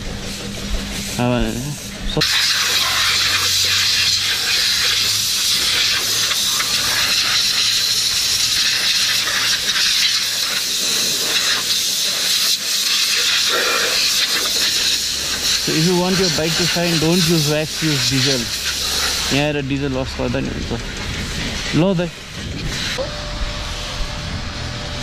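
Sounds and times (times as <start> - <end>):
compressed air hissing: 0.0 - 25.0.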